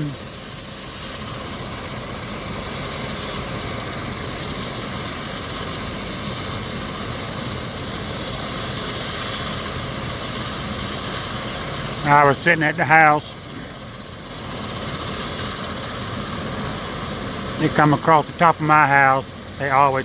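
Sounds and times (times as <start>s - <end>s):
helicopter rotor drone: 0.0s - 20.0s
helicopter turbine whine: 0.0s - 20.0s.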